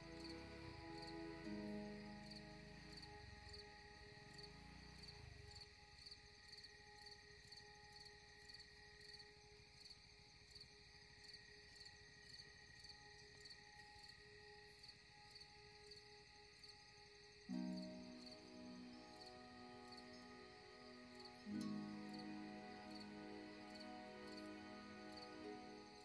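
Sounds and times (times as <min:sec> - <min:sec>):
insect chirping: 0:00.0 - 0:26.0
quiet background music: 0:00.0 - 0:26.0.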